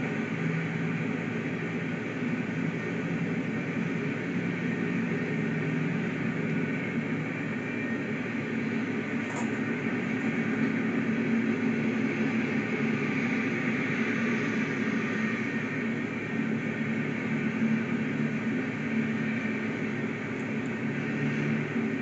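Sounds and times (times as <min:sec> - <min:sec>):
freight train rumbling and rattling: 0:00.0 - 0:22.0.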